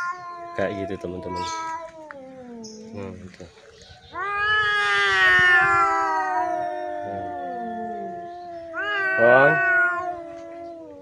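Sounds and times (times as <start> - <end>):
cats yowling: 0.0 - 11.0.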